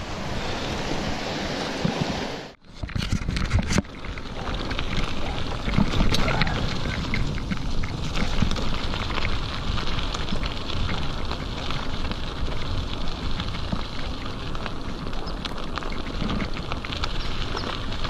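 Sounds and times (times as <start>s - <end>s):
bike tyres crunching on gravel: 0.0s - 18.0s.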